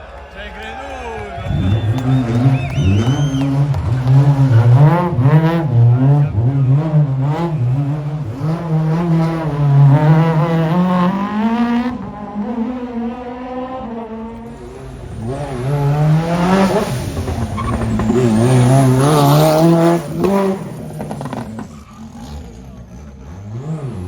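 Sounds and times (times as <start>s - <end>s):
rally car engine revving: 1.2s - 24.0s.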